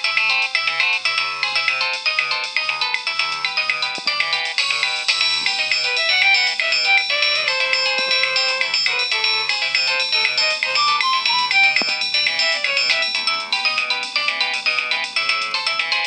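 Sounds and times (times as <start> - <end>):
polyphonic phone ringtone: 0.0 - 16.0.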